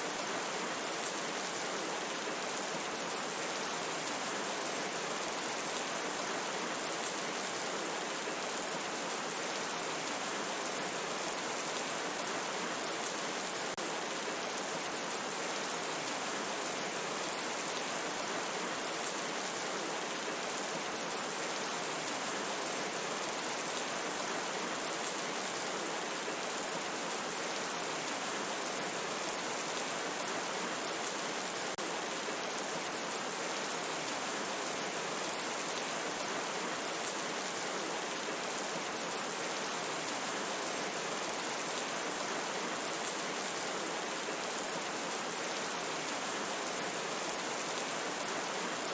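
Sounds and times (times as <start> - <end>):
steady rain in a forest: 0.0 - 48.9.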